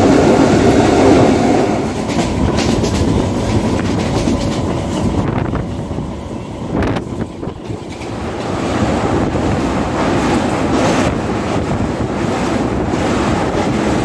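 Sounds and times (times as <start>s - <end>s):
train passing on next track: 0.0s - 14.0s
train rumble with wheel clatter: 0.0s - 14.0s.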